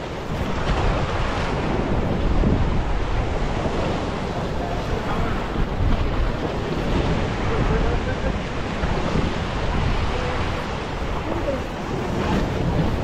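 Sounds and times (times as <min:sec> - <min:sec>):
waves breaking against rocks: 0:00.0 - 0:13.0
wind buffeting microphone: 0:00.0 - 0:13.0.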